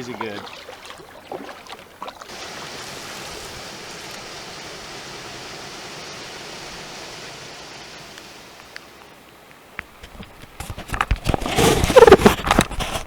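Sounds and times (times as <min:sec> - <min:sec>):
hiss of water: 0:02.3 - 0:13.0.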